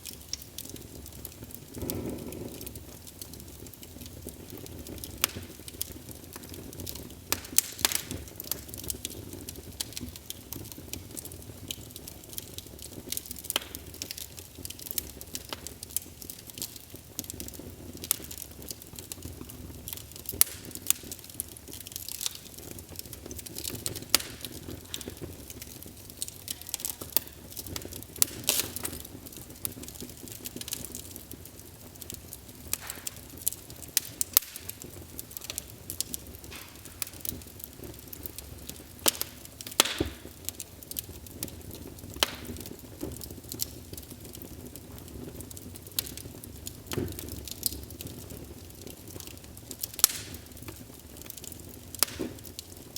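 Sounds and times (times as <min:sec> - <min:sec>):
fire crackling and popping: 0:00.0 - 0:52.9
low rumble of flame: 0:00.0 - 0:52.9.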